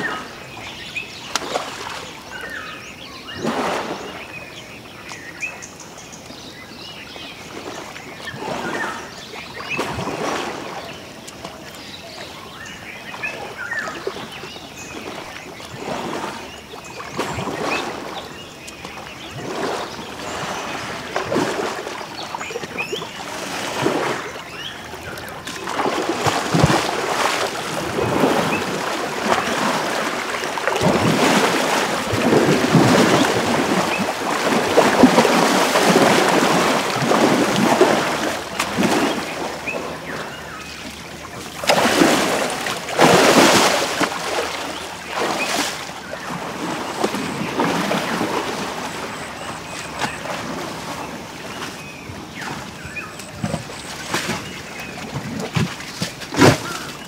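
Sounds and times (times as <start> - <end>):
water sloshing and splashing: 0.0 - 57.0.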